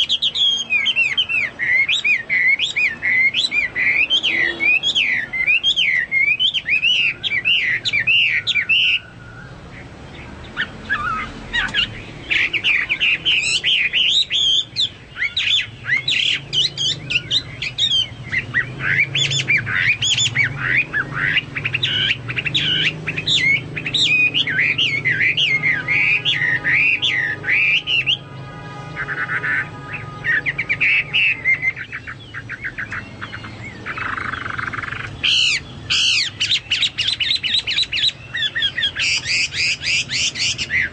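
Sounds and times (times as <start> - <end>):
songbird warbling rapidly: 0.0 - 28.2, 29.0 - 40.9.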